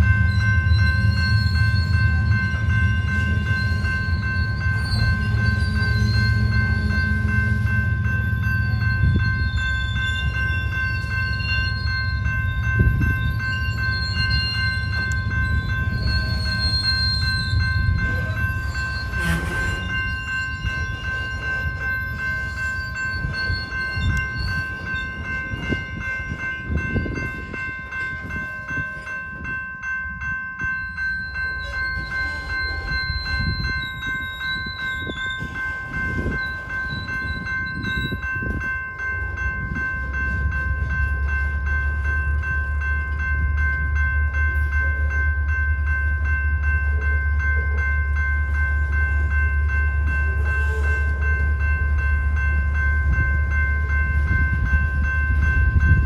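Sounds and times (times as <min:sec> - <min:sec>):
crossing bell ringing: 0:00.0 - 0:56.0
train wheels rumbling on rails: 0:00.0 - 0:56.0.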